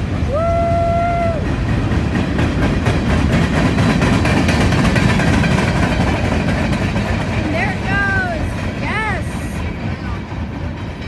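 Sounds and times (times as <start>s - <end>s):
freight train rolling past: 0.0s - 11.0s
train wheel clicks: 1.2s - 11.0s.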